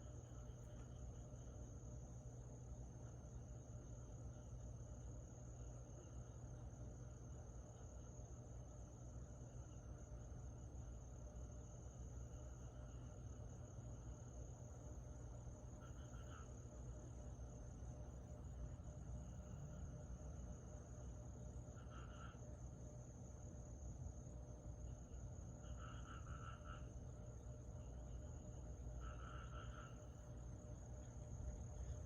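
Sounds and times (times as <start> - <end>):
crickets trilling: 0.0 - 32.0
insects calling: 0.0 - 32.0
low hum: 0.0 - 32.0
short insect chirp: 0.0 - 32.0.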